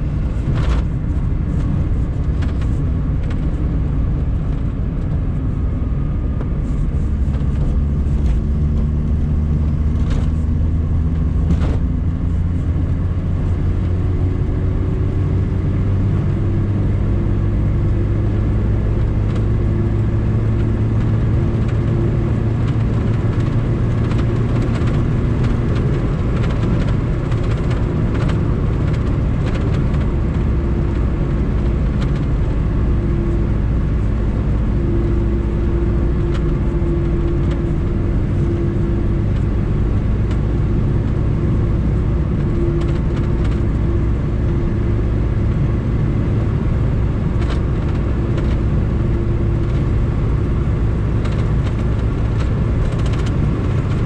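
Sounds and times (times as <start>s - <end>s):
car engine running: 0.0s - 54.0s
road rumble: 0.0s - 54.0s.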